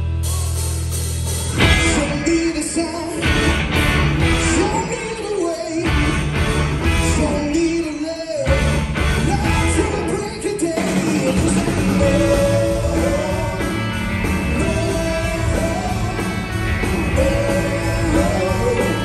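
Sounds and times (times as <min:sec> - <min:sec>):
blues-rock band playing: 0:00.0 - 0:19.0.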